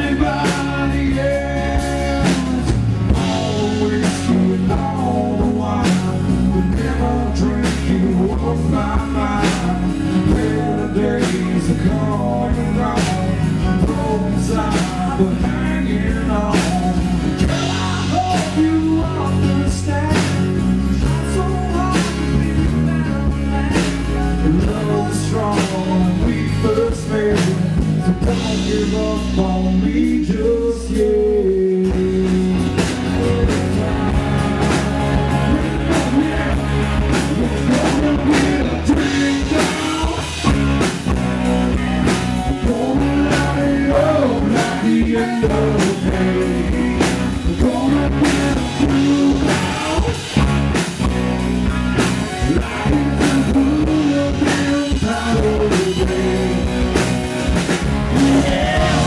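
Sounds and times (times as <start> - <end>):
man singing: 0.0 - 50.7, 52.2 - 59.0
live country band: 0.0 - 59.0.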